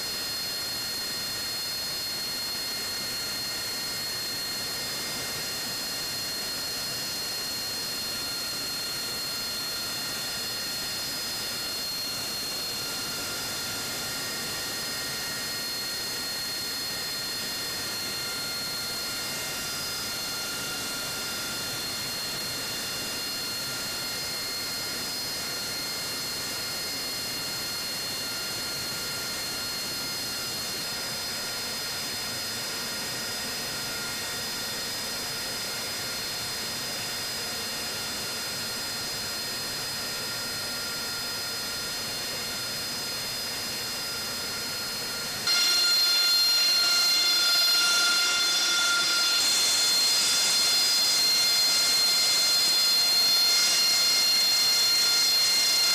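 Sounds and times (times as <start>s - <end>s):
jet engine whine: 0.0s - 55.9s.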